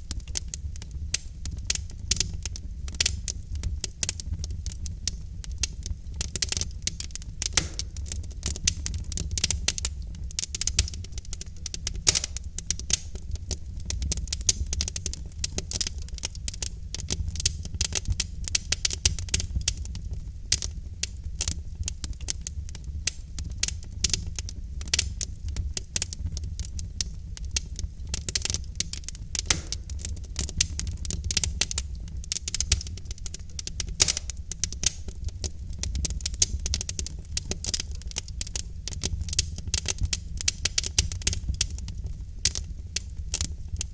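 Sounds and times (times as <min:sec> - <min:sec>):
low rumble of flames: 0:00.0 - 0:43.9
pops and snaps of burning logs: 0:00.0 - 0:43.9
wood fire crackling: 0:00.0 - 0:43.9.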